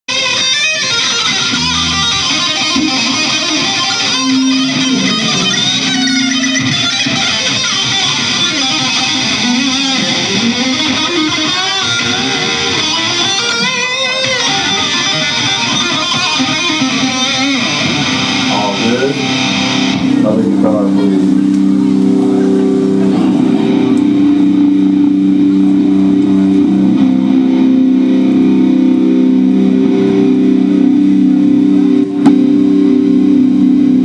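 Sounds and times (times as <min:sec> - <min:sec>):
electric guitar lead lines: 0:00.1 - 0:34.0.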